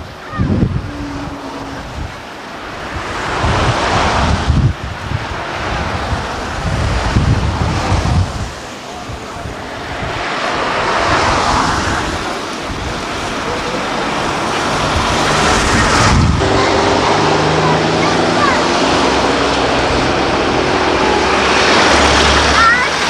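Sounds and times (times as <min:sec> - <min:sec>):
cars passing: 0:00.0 - 0:23.0
wind buffeting microphone: 0:00.0 - 0:23.0.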